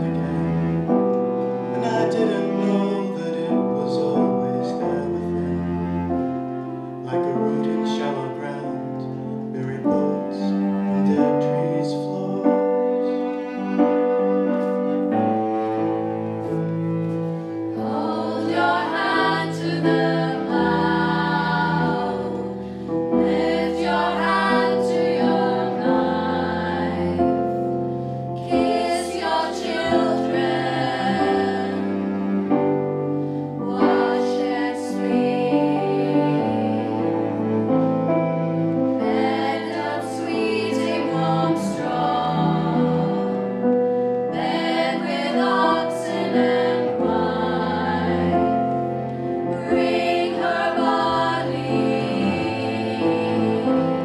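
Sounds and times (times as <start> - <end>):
cello: 0.0 - 54.0
choir singing long notes: 0.0 - 54.0
keyboard: 0.0 - 54.0.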